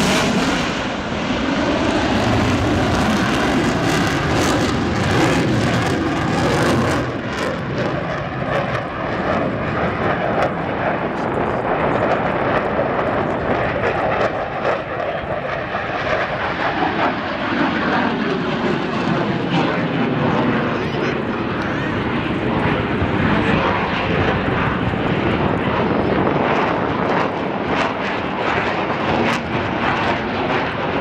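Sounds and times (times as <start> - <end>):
jet engine fly-by: 0.0 - 31.0.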